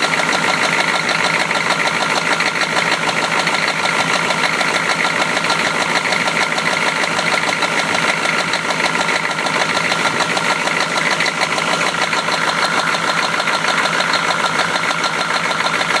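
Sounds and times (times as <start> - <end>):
engine idling with knock: 0.0 - 16.0.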